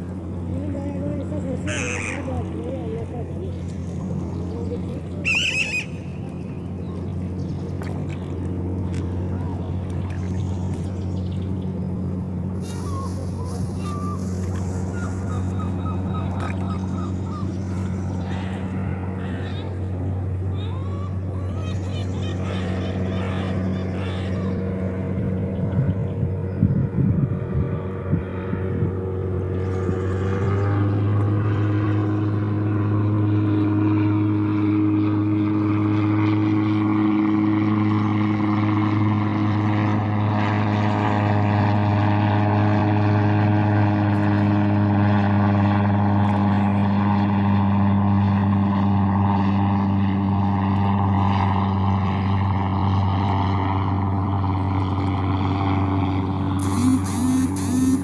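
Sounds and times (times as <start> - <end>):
loud engine drone: 0.0 - 58.0.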